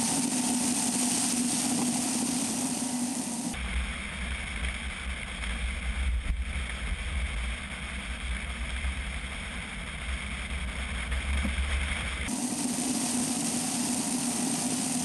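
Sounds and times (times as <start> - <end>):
wind and road noise rumble: 0.0 - 12.3
even hiss: 0.0 - 15.0.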